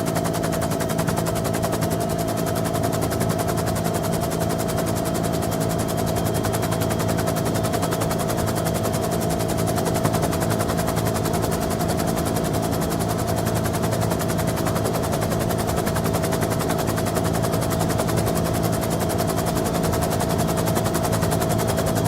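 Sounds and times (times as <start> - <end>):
helicopter engines droning: 0.1 - 22.0.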